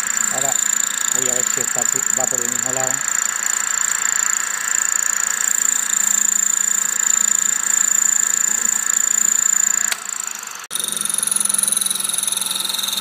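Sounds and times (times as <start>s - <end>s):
lathe motor whining: 0.0s - 13.0s.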